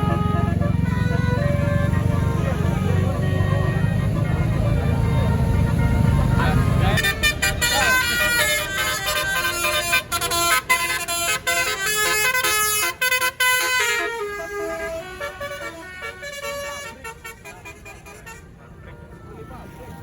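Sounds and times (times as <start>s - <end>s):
multi-tone musical air horn: 0.0s - 20.0s.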